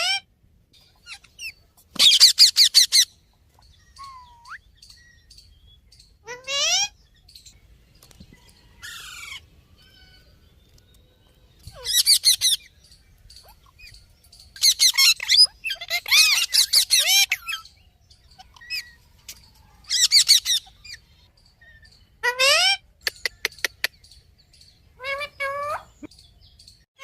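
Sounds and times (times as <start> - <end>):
parrot squawking and chirping: 0.0 - 5.5, 6.2 - 7.5, 8.6 - 10.4, 11.6 - 26.1.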